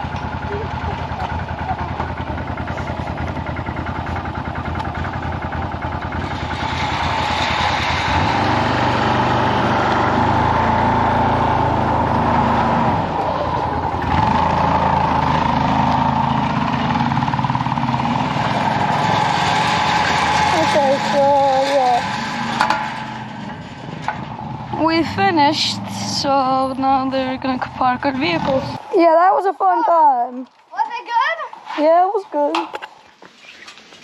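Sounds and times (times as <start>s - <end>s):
small vehicle engine running: 0.0s - 29.1s.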